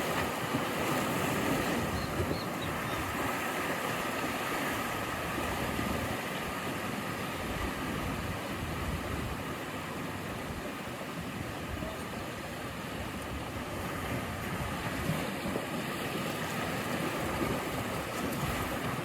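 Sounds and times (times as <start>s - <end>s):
ocean waves on shore: 0.0s - 19.0s.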